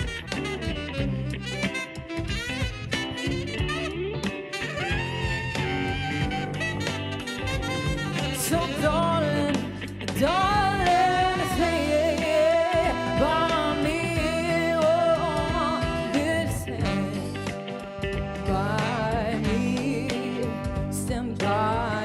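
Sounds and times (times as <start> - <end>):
live band playing soul song: 0.0 - 22.0
steady bass line: 0.0 - 22.0.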